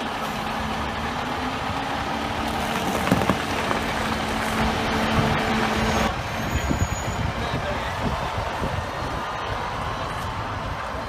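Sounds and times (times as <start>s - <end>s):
diesel engine drone: 0.0s - 11.0s
tyres hissing on wet road: 0.0s - 11.0s.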